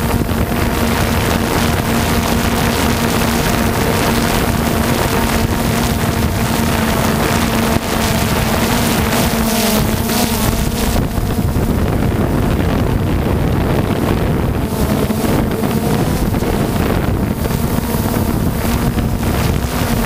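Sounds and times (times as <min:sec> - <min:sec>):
drone motors humming: 0:00.0 - 0:20.0
wind on microphone: 0:00.0 - 0:20.0.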